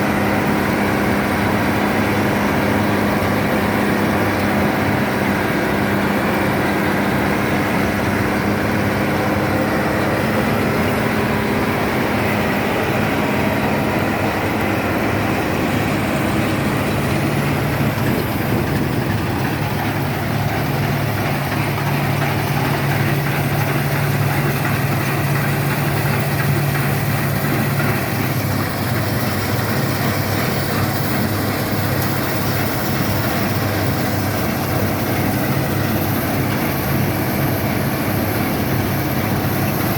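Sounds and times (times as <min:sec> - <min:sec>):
combine harvester machinery: 0:00.0 - 0:39.9
diesel engine running steadily: 0:00.0 - 0:39.9.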